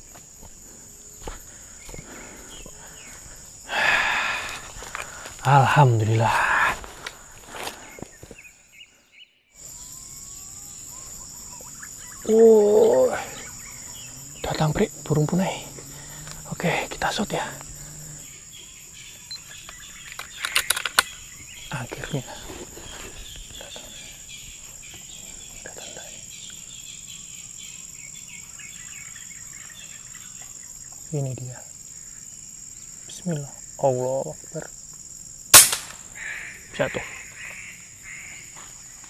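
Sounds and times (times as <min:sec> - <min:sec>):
crickets pulsing chirp: 0:00.0 - 0:39.0
high insect drone: 0:00.0 - 0:39.0.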